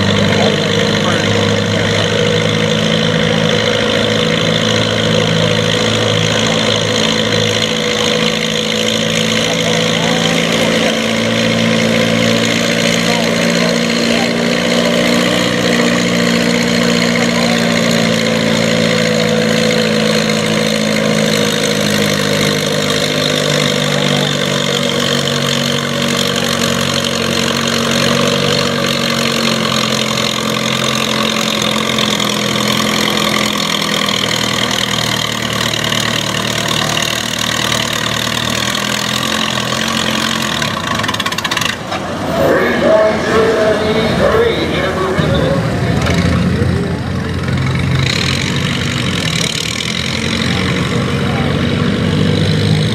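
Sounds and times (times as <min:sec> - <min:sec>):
tractor engine running hard: 0:00.0 - 0:52.9.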